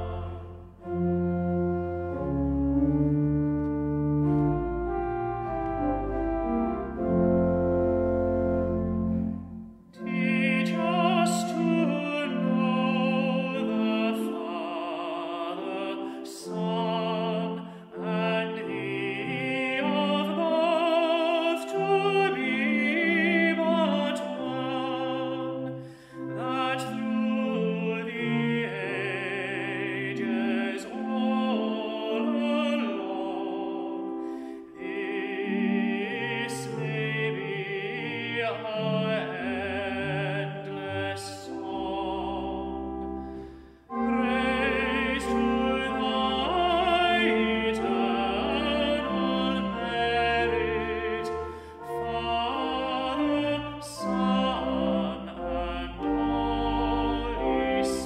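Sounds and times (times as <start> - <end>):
operatic solo voice singing: 0.0 - 1.3, 10.0 - 43.1, 43.9 - 58.0
orchestral accompaniment: 0.0 - 58.0.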